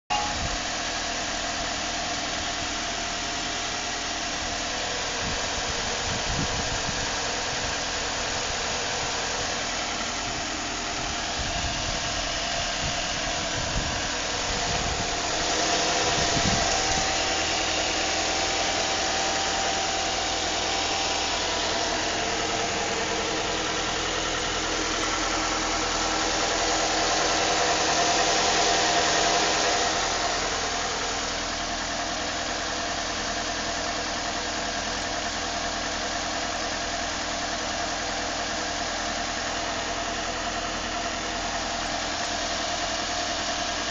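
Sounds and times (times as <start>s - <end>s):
car engine running: 0.1s - 43.9s.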